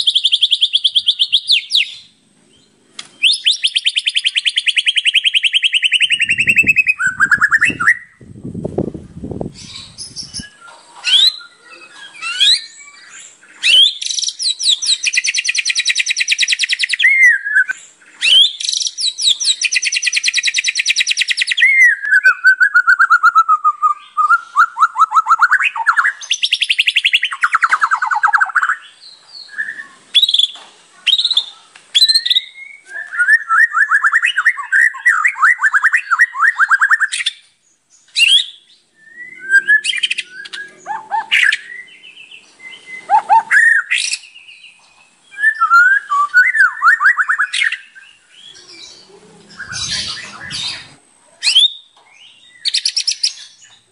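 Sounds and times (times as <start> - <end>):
songbird singing trills and whistles: 0.0 - 8.4, 9.4 - 53.9.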